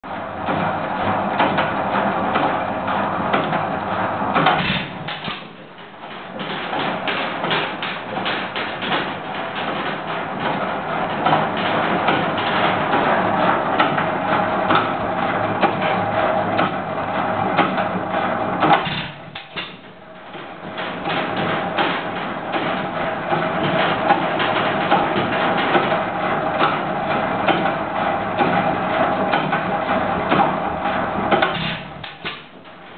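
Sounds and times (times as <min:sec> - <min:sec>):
hit-and-miss engine running: 0:00.0 - 0:32.9.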